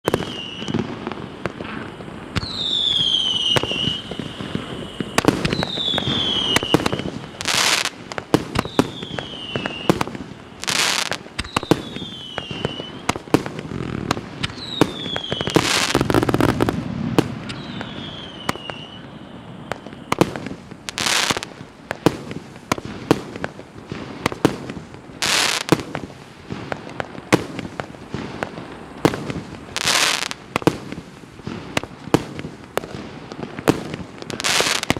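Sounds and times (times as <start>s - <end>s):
fireworks bursting cracks: 0.0s - 34.9s.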